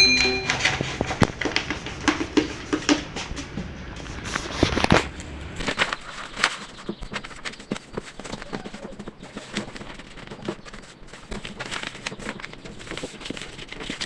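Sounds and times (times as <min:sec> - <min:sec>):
paper and packaging crinkling: 0:00.4 - 0:14.0.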